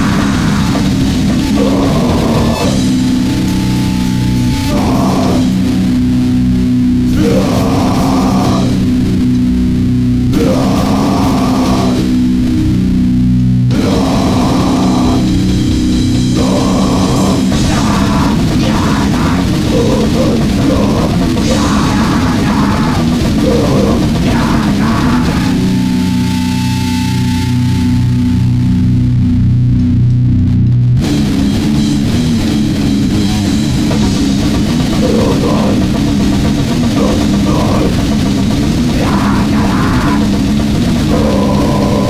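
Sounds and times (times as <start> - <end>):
distorted guitar and drums: 0.0 - 42.0.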